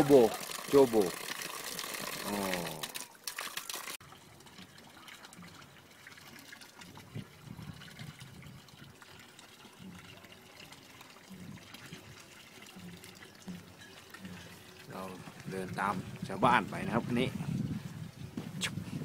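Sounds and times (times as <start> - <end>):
water trickling into stone trough: 0.0 - 18.8.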